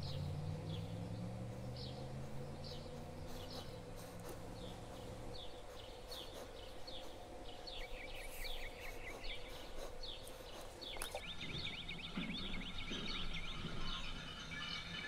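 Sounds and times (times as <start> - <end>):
bird chirping and trilling: 0.0 - 15.0
steady low hum: 0.0 - 15.0.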